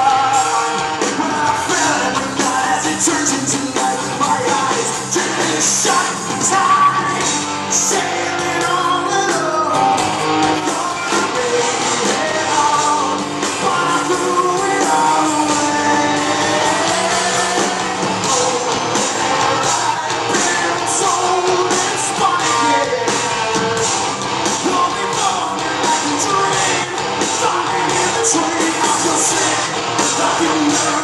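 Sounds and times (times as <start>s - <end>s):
drum kit: 0.0s - 31.0s
electric guitars: 0.0s - 31.0s
lead vocal singing: 0.0s - 31.0s.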